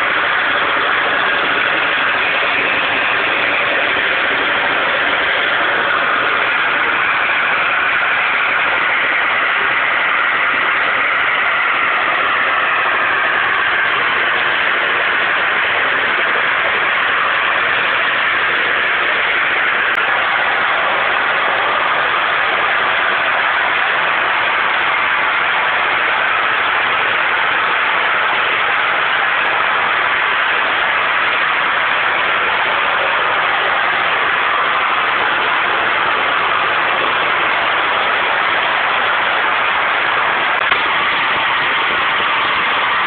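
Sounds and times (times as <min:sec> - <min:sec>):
gas jetting with rushing hiss: 0:00.0 - 0:43.0.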